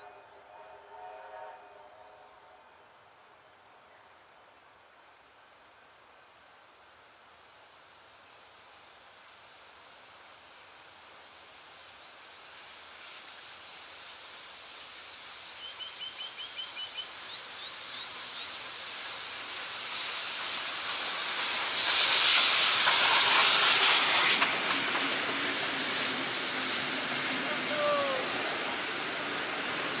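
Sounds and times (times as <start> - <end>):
hiss of steam: 0.0 - 30.0
steam locomotive passing: 0.0 - 30.0.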